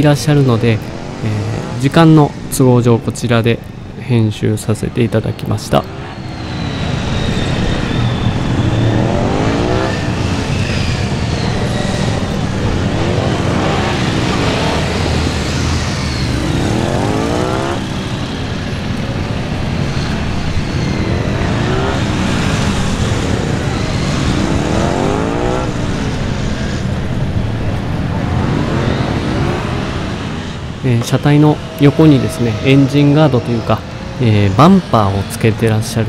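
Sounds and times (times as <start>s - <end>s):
motorcycle engine revving: 5.8s - 35.4s.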